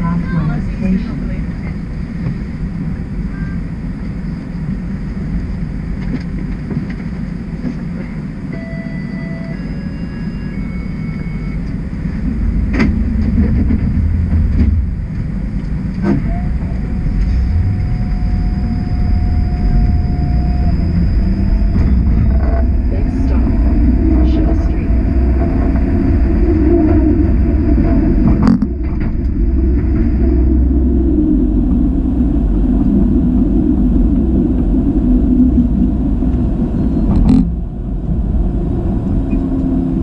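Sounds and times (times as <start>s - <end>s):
steady whine: 0.0s - 40.0s
streetcar motors and wheels rumbling: 0.0s - 40.0s.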